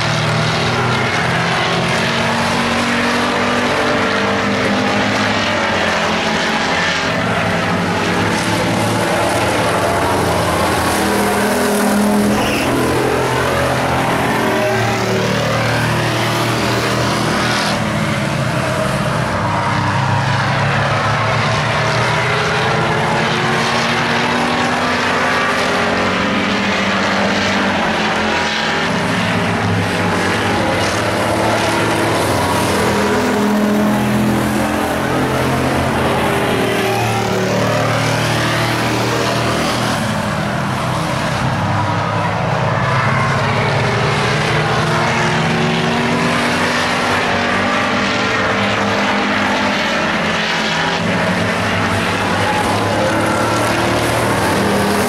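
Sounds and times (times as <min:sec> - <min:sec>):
racing truck engines: 0:00.0 - 0:55.0.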